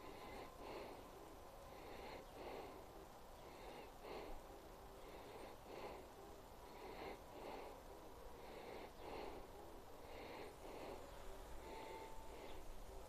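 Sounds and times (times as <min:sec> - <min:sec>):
faint soft breathing: 0:00.0 - 0:13.0.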